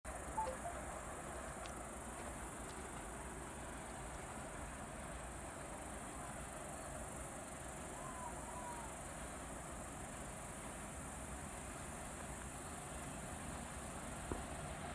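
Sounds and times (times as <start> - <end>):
crickets chirping: 0.1 - 14.9.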